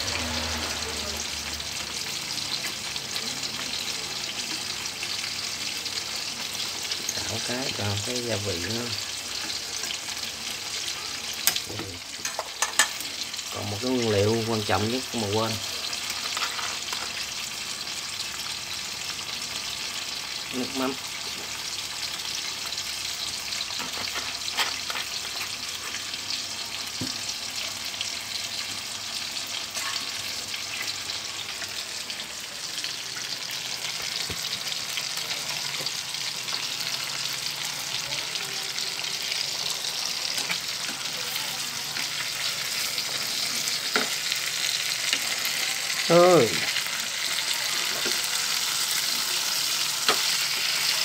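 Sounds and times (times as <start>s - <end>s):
fish sizzling and bubbling in a pan: 0.0s - 51.0s.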